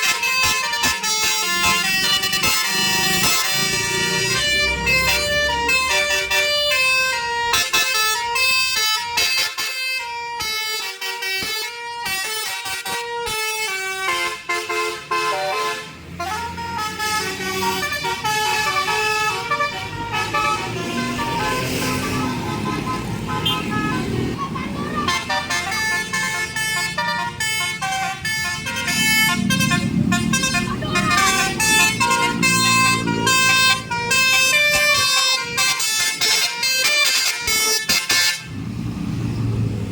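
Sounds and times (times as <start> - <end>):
musical bus horn: 0.0 - 38.7.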